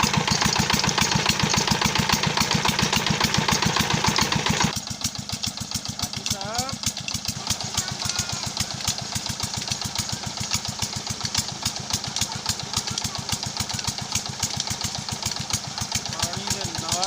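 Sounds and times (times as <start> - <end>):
diesel engine running slowly: 0.0 - 17.0.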